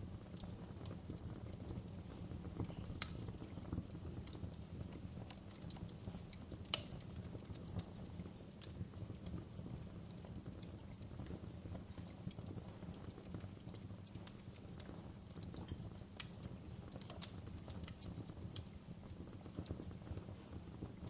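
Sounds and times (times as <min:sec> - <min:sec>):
fire crackling in a fireplace: 0:00.0 - 0:21.0
sharp pops of fire: 0:00.0 - 0:21.0.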